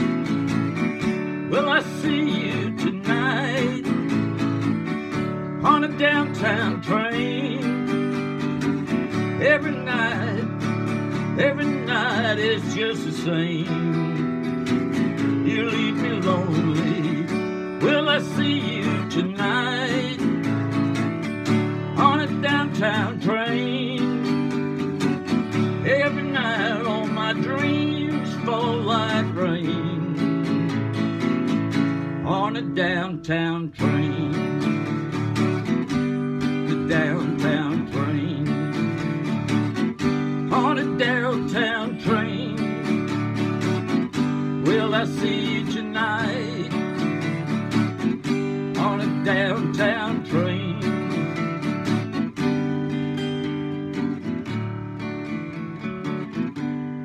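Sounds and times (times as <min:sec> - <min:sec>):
acoustic guitar strumming: 0:00.0 - 0:57.0
sliding guitar notes: 0:00.0 - 0:57.0.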